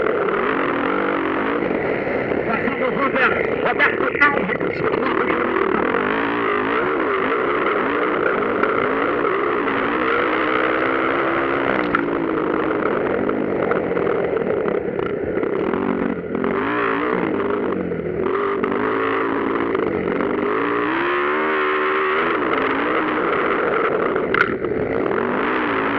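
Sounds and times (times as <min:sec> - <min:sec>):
motocross bikes revving: 0:00.0 - 0:25.9.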